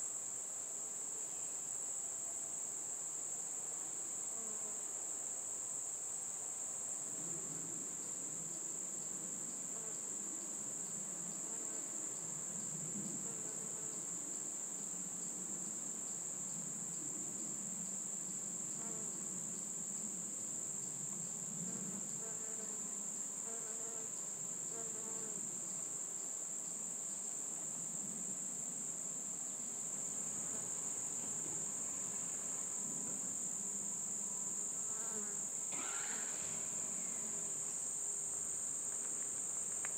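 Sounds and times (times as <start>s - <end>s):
insects trilling: 7.2s - 39.9s.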